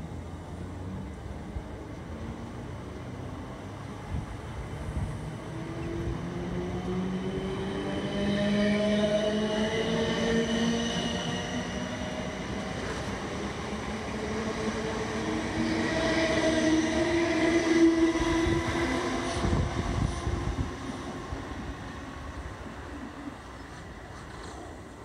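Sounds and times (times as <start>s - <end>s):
train wheels on rails: 0.6s - 25.0s.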